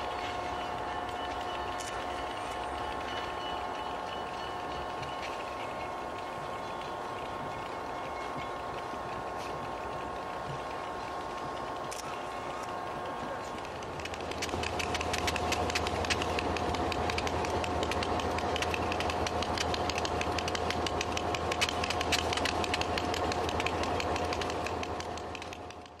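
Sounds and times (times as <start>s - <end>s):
crackle of ticks: 0.0s - 26.0s
diesel locomotives idling: 0.0s - 26.0s.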